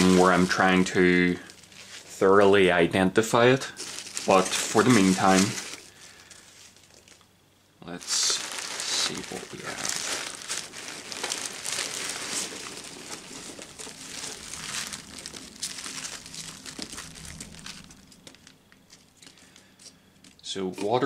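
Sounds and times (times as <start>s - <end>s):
packing peanuts and plastic rustling: 0.0s - 7.3s, 7.9s - 21.0s.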